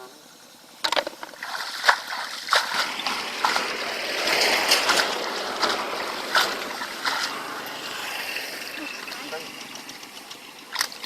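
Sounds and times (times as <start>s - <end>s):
water splashing: 0.9s - 11.0s
water sloshing and rushing: 1.0s - 11.0s.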